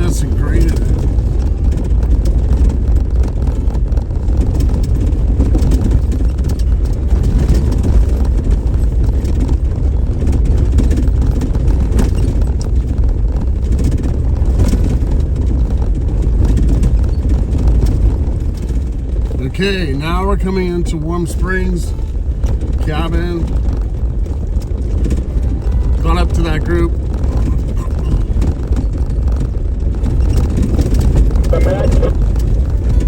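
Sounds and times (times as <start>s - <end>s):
gravel rattles and ticks: 0.0s - 33.0s
vehicle tyres and engine rumble: 0.0s - 33.0s.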